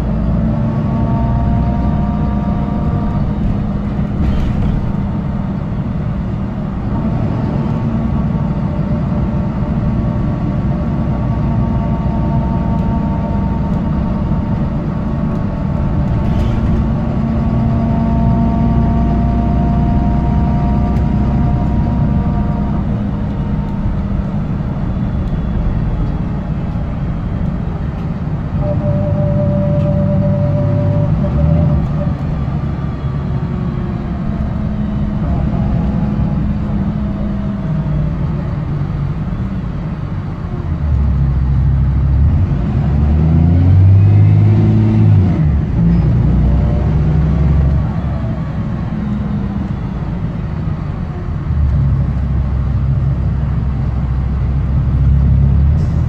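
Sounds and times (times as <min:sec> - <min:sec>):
bus engine rumbling: 0:00.0 - 0:56.0
engine whining tones: 0:10.5 - 0:56.0.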